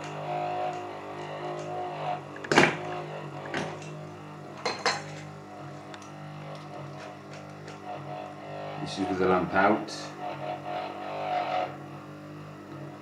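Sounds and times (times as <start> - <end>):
transformer buzzing hum: 0.0 - 13.0.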